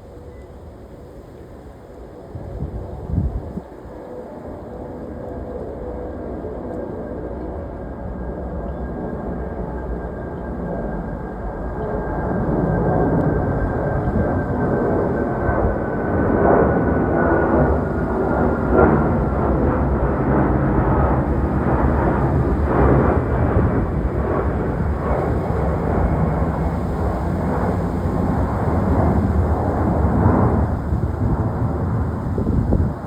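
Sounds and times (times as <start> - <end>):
high jet whine: 0.0 - 33.0
jet engine rumble: 0.0 - 33.0.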